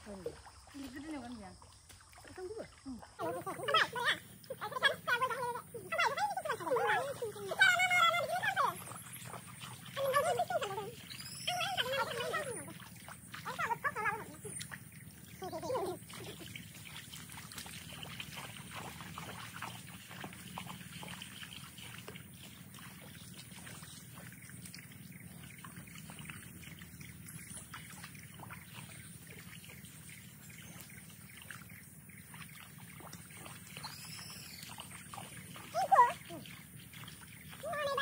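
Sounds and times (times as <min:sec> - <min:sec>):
muddy water trickling and splashing: 0:00.0 - 0:38.0.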